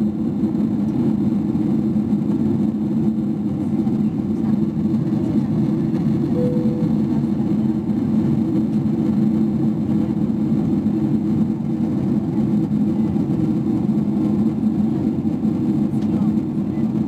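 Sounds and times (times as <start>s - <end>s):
airplane cabin engine drone: 0.0s - 17.0s.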